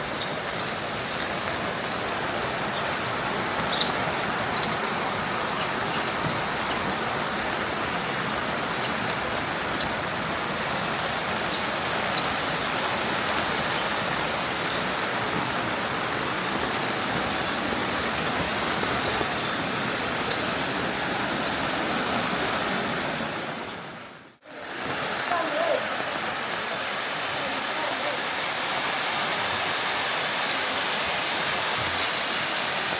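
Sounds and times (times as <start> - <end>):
water rushing: 0.0 - 32.9.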